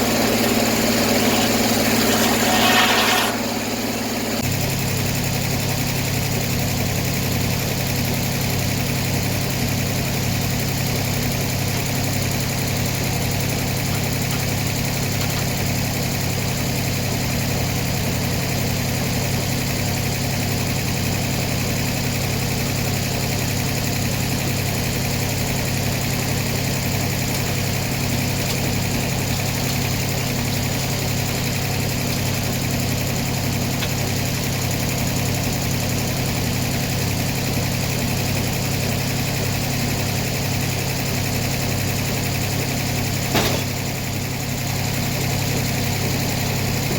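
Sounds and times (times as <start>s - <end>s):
sawmill engine humming: 0.0s - 46.9s.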